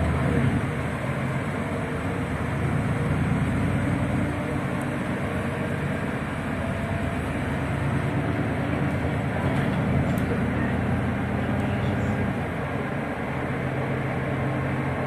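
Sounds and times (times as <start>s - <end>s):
bus engine hum: 0.0s - 15.0s
road and tyre noise: 0.0s - 15.0s.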